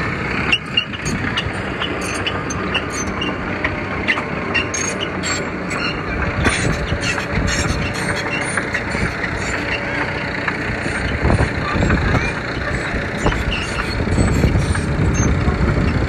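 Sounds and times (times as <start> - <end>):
diesel engine running: 0.0 - 16.0
steel tracks clinking and squeaking: 0.4 - 16.0.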